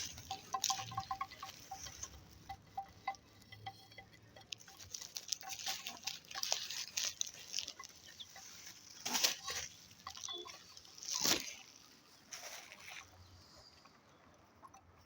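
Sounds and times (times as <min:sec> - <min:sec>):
chickens pecking at feed: 0:00.0 - 0:15.0.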